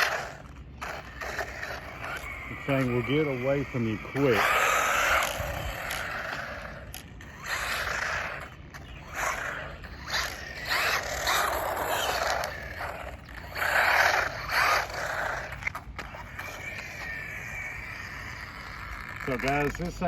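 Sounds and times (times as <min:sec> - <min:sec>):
rc car motor whine: 0:00.0 - 0:20.0
tyres scraping over ground: 0:00.0 - 0:20.0.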